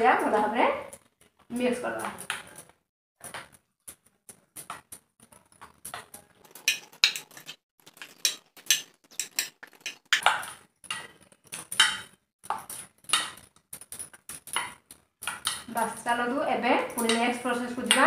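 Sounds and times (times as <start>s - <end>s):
bangles clinking: 0.2s - 15.7s
fingers squishing food in bowl: 0.8s - 15.8s.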